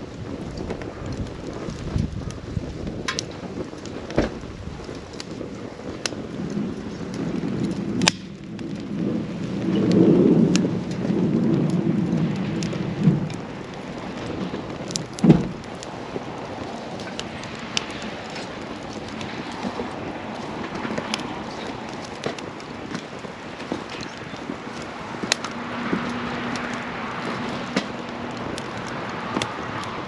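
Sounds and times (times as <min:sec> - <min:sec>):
campfire crackling and popping: 0:00.0 - 0:30.0
wind gust on microphone: 0:00.0 - 0:30.0.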